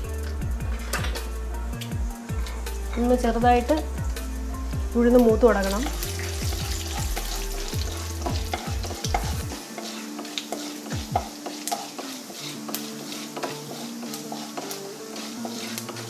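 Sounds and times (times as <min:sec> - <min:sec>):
seeds sizzling in hot oil: 0:00.0 - 0:16.0.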